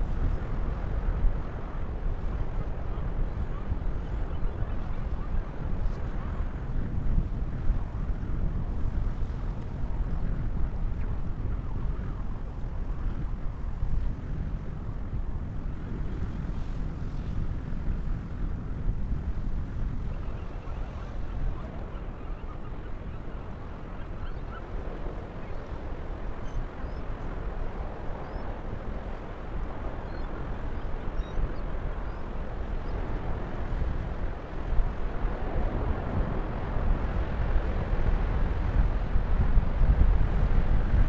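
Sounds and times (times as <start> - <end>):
wind rumbling on microphone: 0.0 - 41.0.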